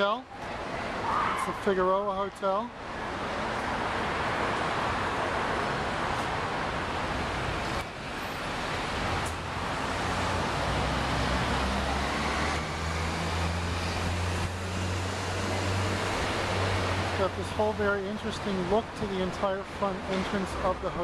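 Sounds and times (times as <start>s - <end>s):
passing street traffic: 0.0s - 21.0s.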